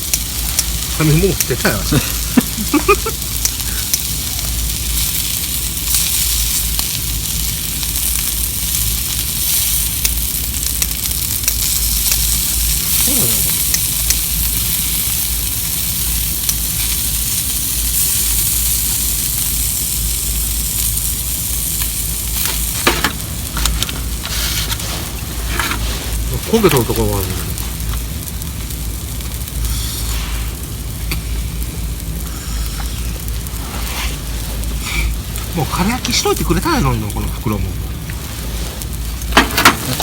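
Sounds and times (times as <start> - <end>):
food sizzling in a pot: 0.0 - 40.0.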